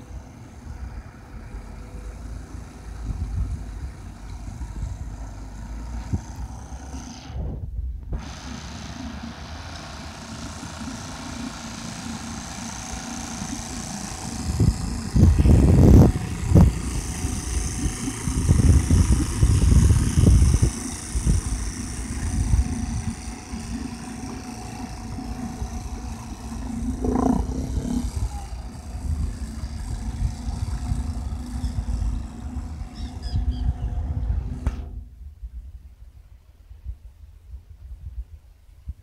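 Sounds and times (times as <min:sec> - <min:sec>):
wind rumbling on microphone: 0:00.0 - 0:08.4, 0:13.4 - 0:39.0
outboard motor running: 0:00.0 - 0:35.1.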